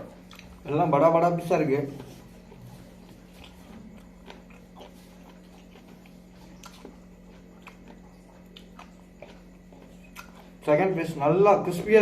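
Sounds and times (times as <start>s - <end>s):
person chewing food: 0.0s - 11.0s
small crunches and mouth clicks: 0.0s - 11.8s.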